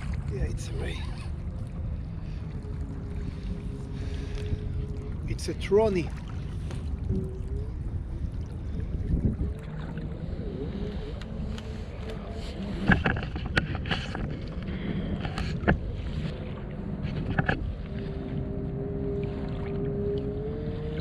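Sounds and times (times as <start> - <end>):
wind and water rumble: 0.0 - 21.0.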